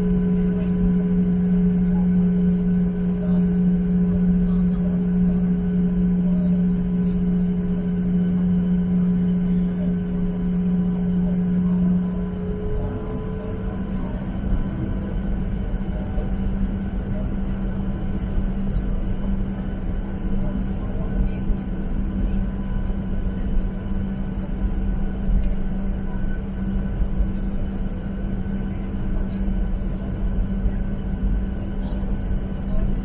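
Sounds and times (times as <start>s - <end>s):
jet airliner cabin rumble: 0.0s - 33.0s.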